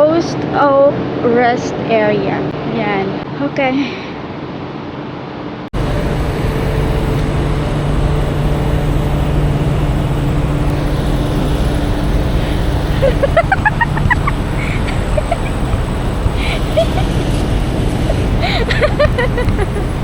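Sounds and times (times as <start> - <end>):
traffic noise with low hum: 0.0 - 20.0.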